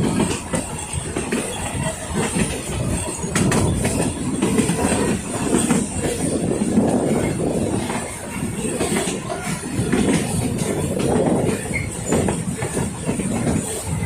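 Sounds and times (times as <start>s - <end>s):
train wheels clattering on rail joints: 0.0s - 14.0s.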